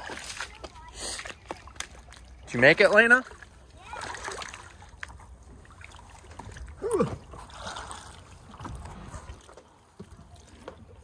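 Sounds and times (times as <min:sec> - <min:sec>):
water lapping: 0:00.0 - 0:11.0.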